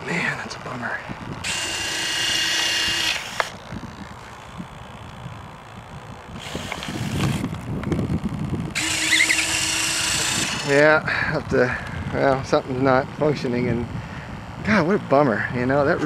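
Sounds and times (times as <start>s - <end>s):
electric landing gear whirring: 0.0s - 16.0s.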